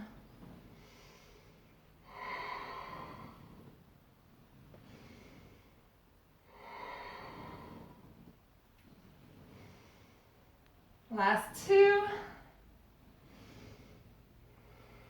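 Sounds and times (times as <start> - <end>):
woman breathing: 0.0 - 10.7, 12.5 - 15.0.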